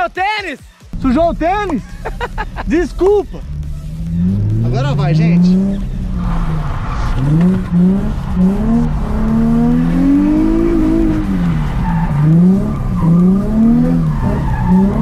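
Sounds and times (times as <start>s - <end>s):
car engine revving hard: 1.6s - 15.0s.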